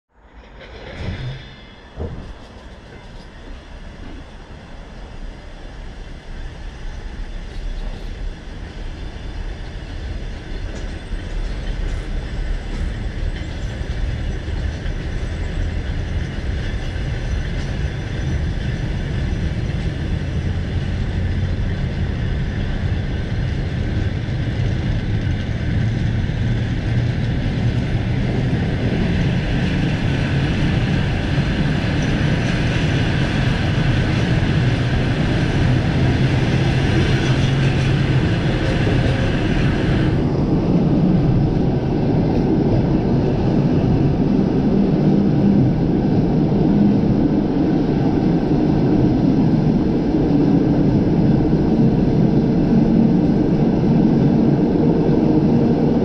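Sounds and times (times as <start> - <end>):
train rolling rumble: 0.1 - 56.0.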